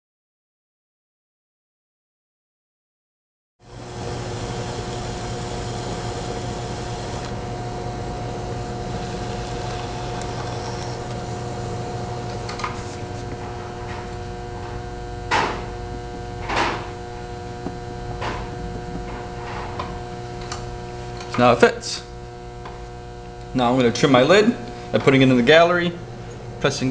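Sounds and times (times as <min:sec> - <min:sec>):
pottery wheel motor hum: 0:03.6 - 0:26.9.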